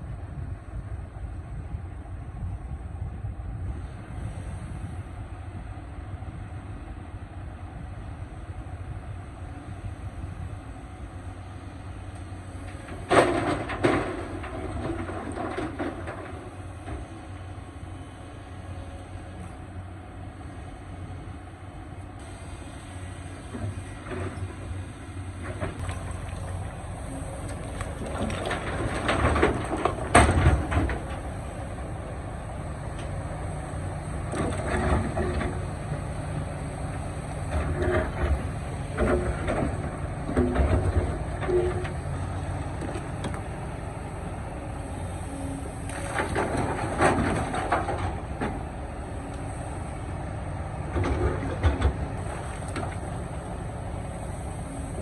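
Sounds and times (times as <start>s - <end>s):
excavator diesel engine running: 0.1s - 55.0s.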